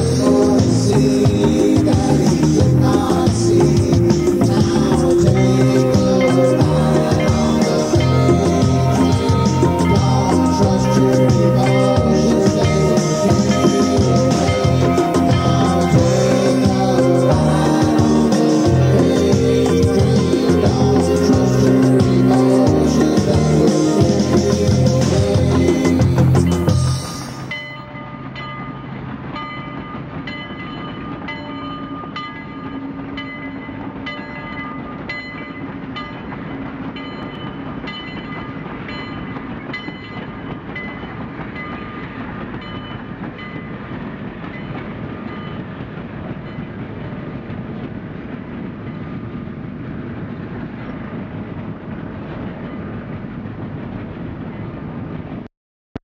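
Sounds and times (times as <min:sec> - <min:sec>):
train wheels clicking: 0:00.0 - 0:55.4
train rumbling on rails: 0:00.0 - 0:55.5.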